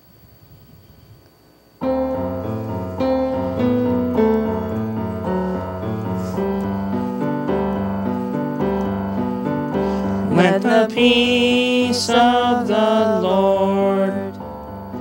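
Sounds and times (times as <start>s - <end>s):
piano-like keyboard music: 1.8s - 15.0s.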